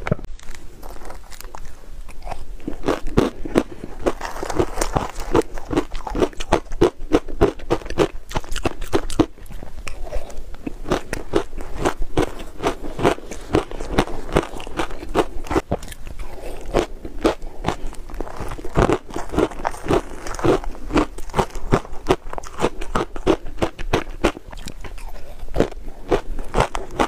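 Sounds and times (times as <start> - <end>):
crunching of shaved ice: 0.4 - 27.0.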